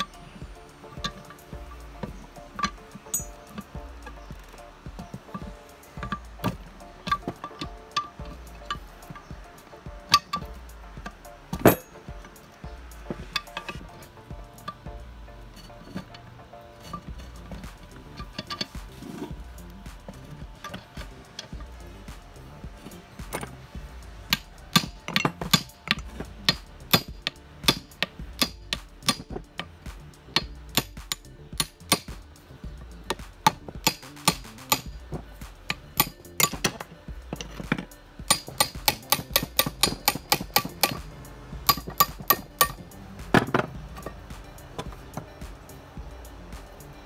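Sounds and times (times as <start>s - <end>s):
socket ratchet clicking: 0.0s - 14.9s, 16.8s - 47.0s.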